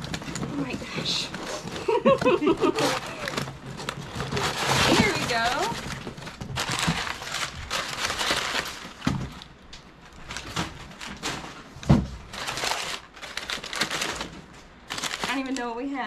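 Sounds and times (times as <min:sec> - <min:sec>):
packing paper rustling and crinkling: 0:00.0 - 0:16.0.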